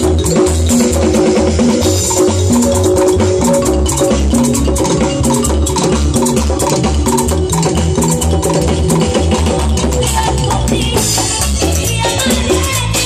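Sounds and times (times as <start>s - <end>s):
rhythmic percussion: 0.0s - 13.0s
steady bass line: 0.0s - 13.0s.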